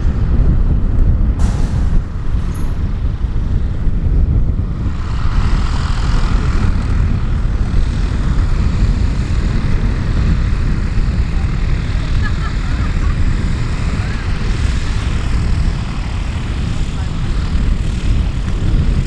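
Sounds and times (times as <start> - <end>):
propeller aircraft engine: 0.0 - 19.0
steady low rumble: 0.0 - 19.0.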